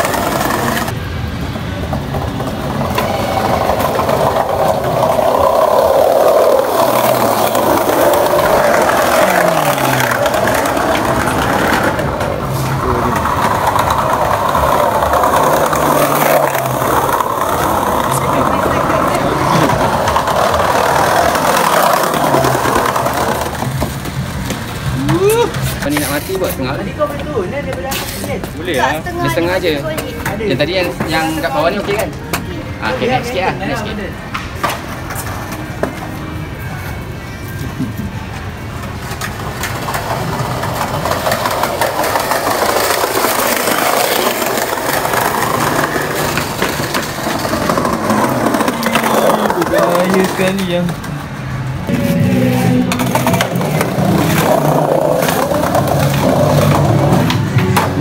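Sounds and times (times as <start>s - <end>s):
skateboard wheels rolling on tiles: 0.0s - 58.0s.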